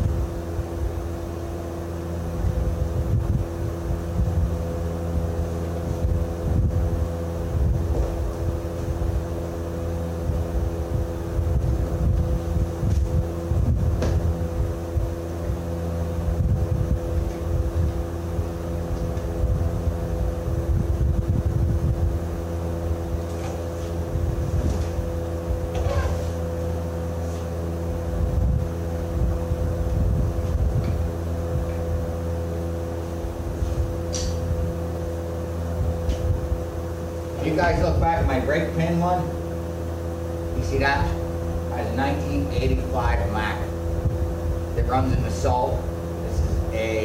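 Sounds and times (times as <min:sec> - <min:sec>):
wind buffeting microphone: 0:00.0 - 0:38.5, 0:39.4 - 0:46.8
engine running: 0:00.0 - 0:47.0.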